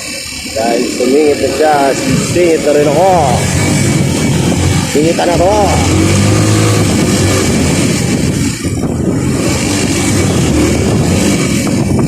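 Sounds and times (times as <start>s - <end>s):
motorcycle engine running: 0.0s - 12.0s
steady rushing noise: 0.0s - 12.0s.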